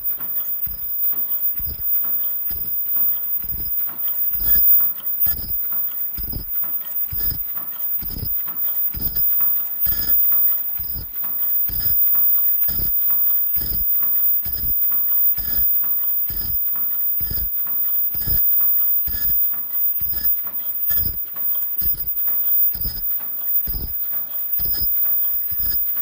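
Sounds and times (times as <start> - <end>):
machine knocking stroke: 0.0 - 26.0
mechanical clatter of rollers: 0.0 - 26.0.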